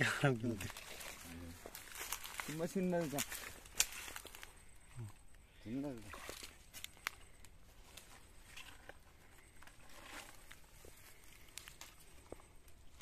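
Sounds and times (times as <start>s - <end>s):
dry reeds crackling: 0.0s - 13.0s.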